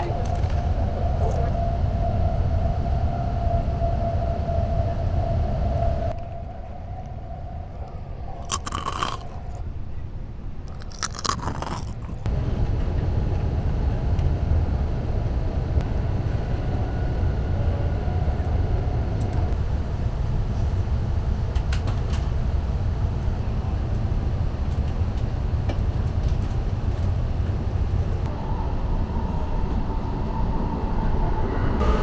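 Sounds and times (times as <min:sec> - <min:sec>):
train interior rumble: 0:00.0 - 0:32.0.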